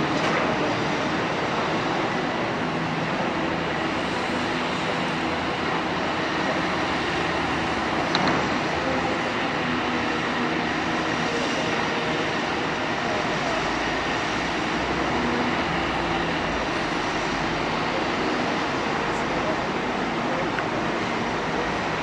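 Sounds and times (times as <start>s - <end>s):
excavator diesel engine: 0.0s - 22.0s
other heavy machinery running: 0.0s - 22.0s.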